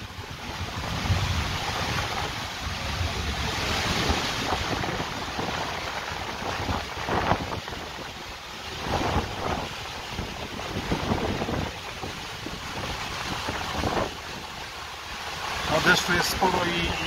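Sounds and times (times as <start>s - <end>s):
wind buffeting microphone: 0.0s - 15.8s
heavy rain: 0.0s - 17.0s.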